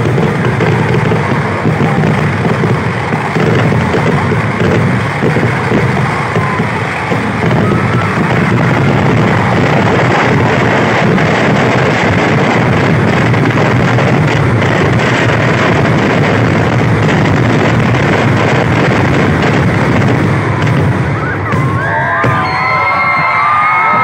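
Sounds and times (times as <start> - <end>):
fireworks blasts: 0.0 - 24.0.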